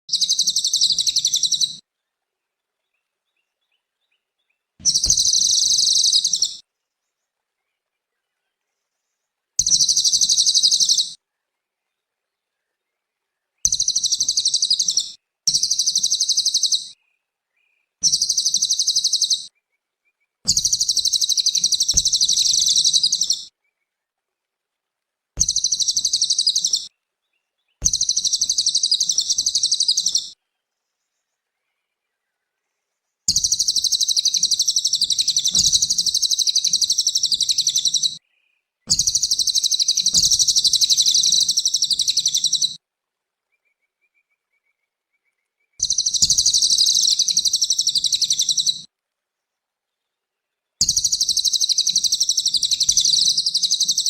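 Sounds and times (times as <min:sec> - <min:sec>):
songbird chattering song: 0:00.1 - 0:02.2, 0:02.8 - 0:24.0, 0:25.4 - 0:42.8, 0:43.5 - 0:48.9, 0:49.9 - 0:54.0.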